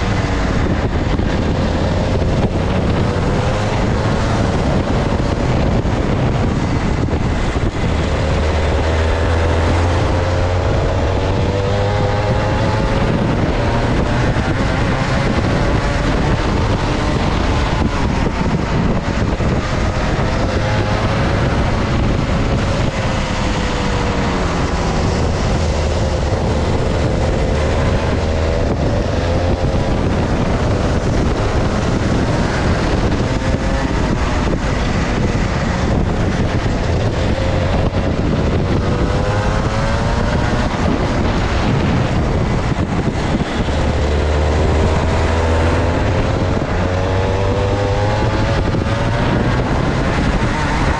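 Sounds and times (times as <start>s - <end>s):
two-stroke kart engine revving: 0.0s - 50.9s
wind buffeting microphone: 0.0s - 50.9s.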